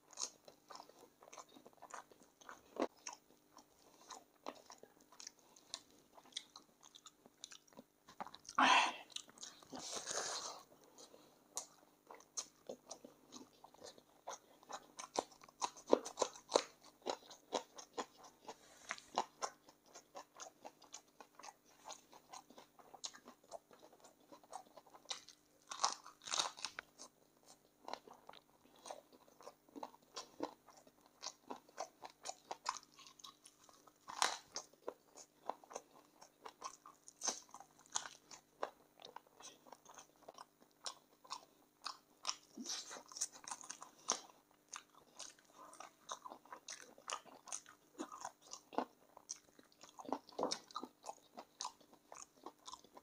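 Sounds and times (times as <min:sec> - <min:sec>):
person chewing and crunching: 0:00.0 - 0:53.0.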